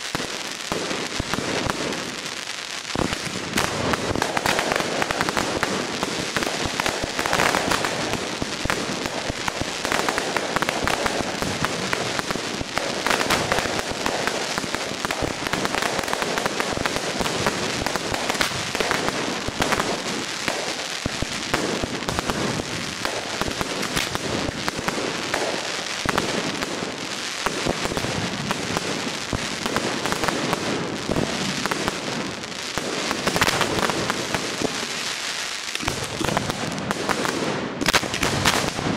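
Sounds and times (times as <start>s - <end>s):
fireworks crackling bangs: 0.0s - 38.9s.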